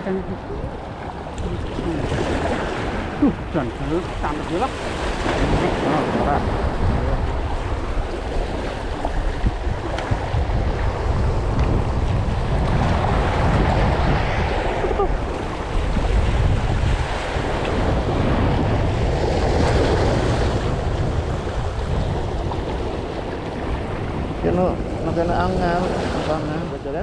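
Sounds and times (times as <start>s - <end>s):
sea waves washing: 0.0s - 27.0s
wind buffeting microphone: 0.0s - 27.0s.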